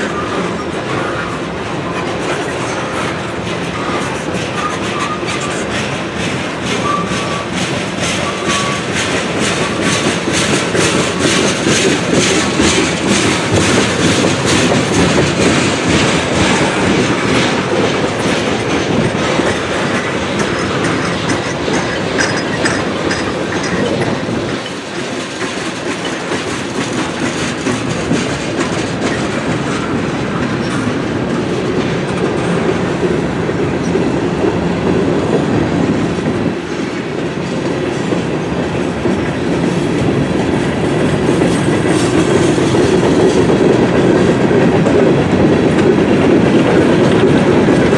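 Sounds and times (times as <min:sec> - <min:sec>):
freight train rumbling past: 0:00.0 - 0:47.9
wheels clacking over rail joints: 0:00.0 - 0:47.9.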